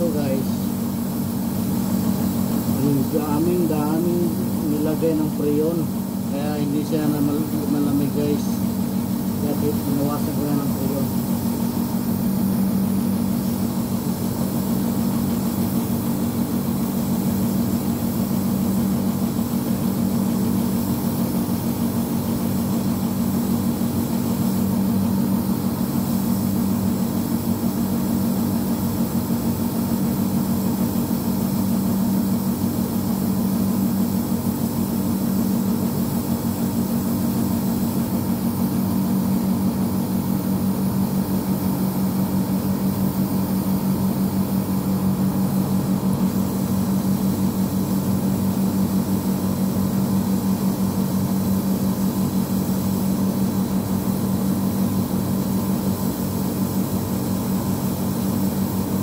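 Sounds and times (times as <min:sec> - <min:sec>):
compressor hum: 0:00.0 - 0:59.0
fan noise: 0:00.0 - 0:59.0.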